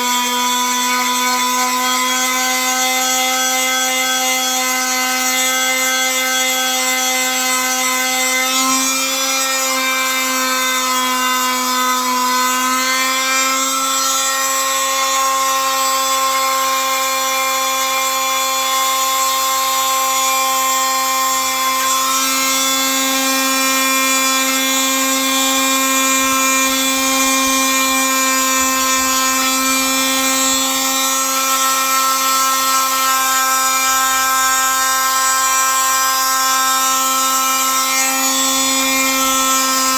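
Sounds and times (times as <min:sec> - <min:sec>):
electric power tool running: 0:00.0 - 0:39.9.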